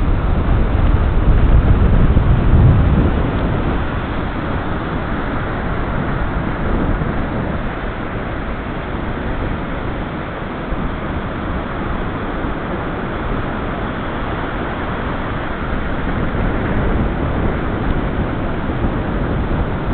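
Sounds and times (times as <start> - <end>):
ocean waves breaking on beach: 0.0 - 19.9.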